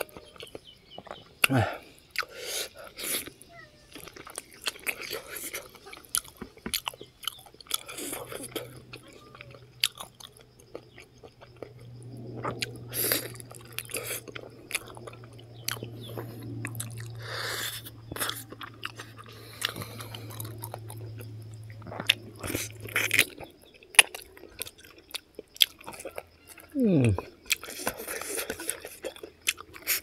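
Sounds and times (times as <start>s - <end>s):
man chewing and biting: 0.0s - 30.0s.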